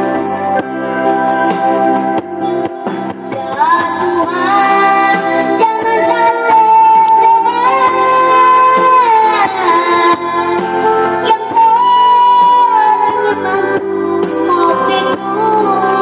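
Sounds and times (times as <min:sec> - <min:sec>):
band accompaniment: 0:00.0 - 0:15.7
girl singing pop song: 0:03.0 - 0:16.0.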